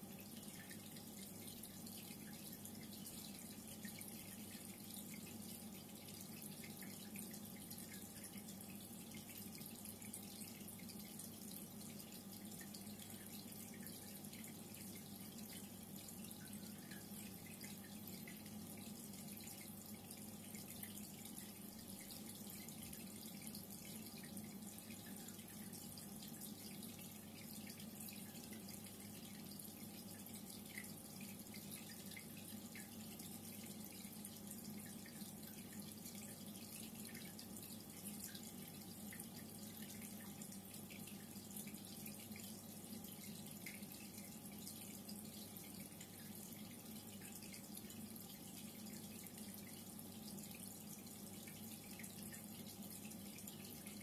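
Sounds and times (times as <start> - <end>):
low steady hum: 0.0 - 54.0
water trickling and dripping: 0.0 - 54.0.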